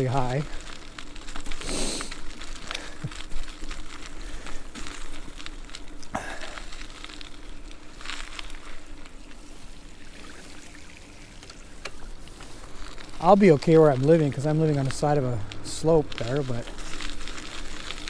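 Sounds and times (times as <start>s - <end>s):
tyres rolling on wet slush: 0.0s - 18.0s.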